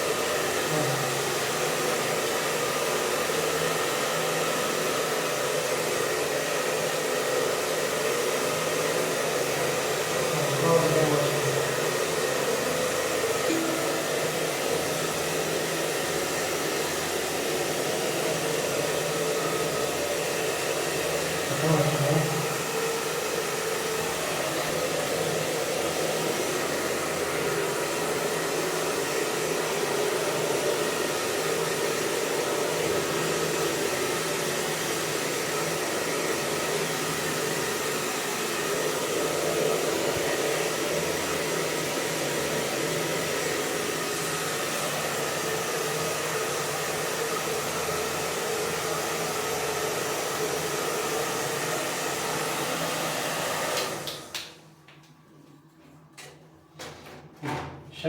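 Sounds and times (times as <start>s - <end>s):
hair dryer blowing: 0.0s - 55.2s.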